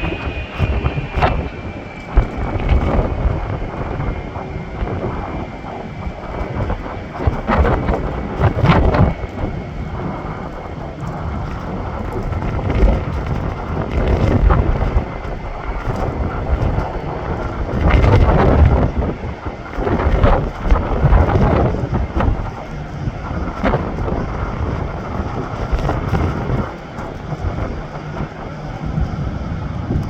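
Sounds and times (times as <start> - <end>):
faint jet engine whine: 0.0 - 30.0
wind buffeting microphone: 0.0 - 30.0.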